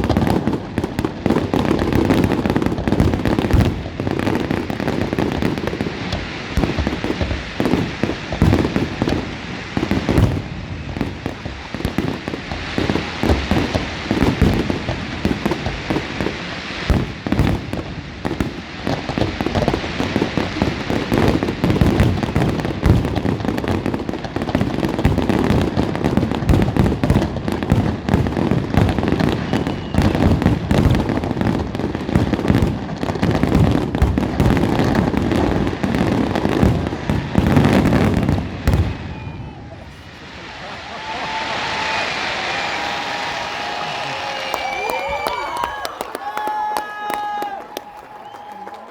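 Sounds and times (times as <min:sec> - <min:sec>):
fireworks banging and crackling: 0:00.0 - 0:48.9.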